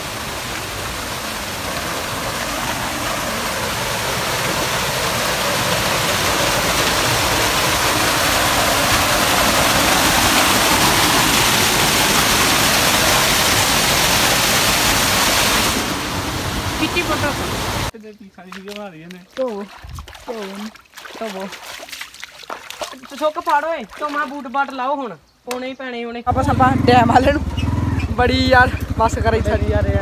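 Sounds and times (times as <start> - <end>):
small waterfall splashing into pool: 0.0 - 24.9.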